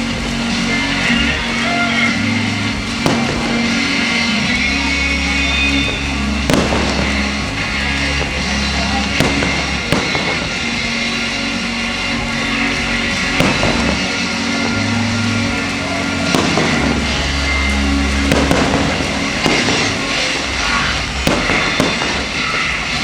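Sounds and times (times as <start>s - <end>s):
fireworks bangs: 0.0s - 23.0s
music with bass line: 0.0s - 23.0s.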